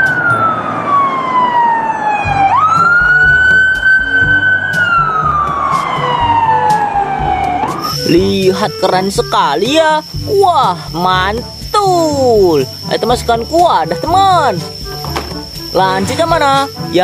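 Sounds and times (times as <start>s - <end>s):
police siren wailing: 0.0s - 17.0s.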